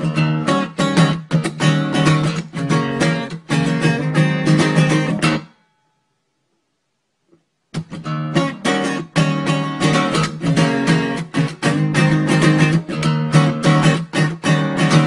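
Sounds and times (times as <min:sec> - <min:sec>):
guitar strumming: 0:00.0 - 0:06.0, 0:07.7 - 0:15.0.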